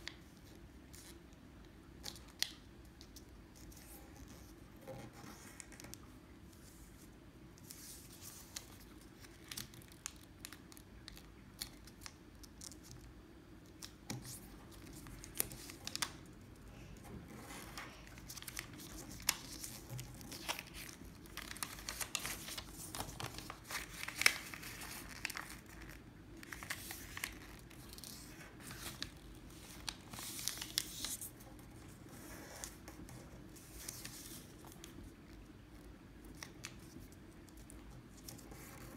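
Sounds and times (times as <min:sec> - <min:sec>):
paper crinkling and crackling: 0:07.6 - 0:38.9.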